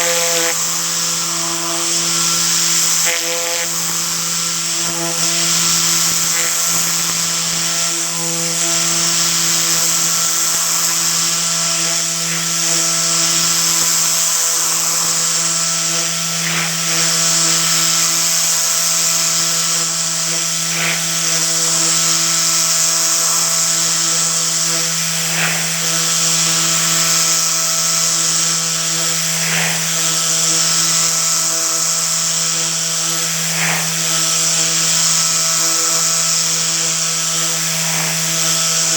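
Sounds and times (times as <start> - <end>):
compressed air gun hissing: 0.0 - 38.9
steady hum: 0.0 - 38.9.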